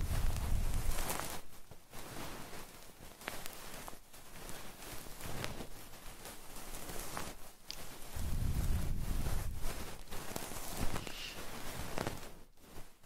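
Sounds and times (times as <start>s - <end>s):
soft rustling and scratching: 0.0s - 13.0s.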